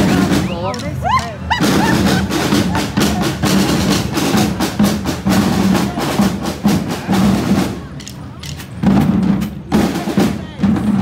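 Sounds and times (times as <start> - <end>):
drums beating fast rhythm: 0.0 - 11.0.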